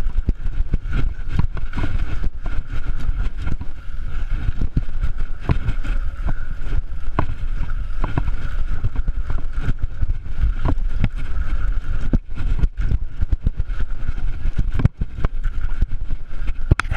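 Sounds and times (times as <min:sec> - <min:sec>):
bike and camera rattling: 0:00.0 - 0:16.9
thin steady whine: 0:00.0 - 0:16.9
wind buffeting microphone: 0:00.0 - 0:16.9.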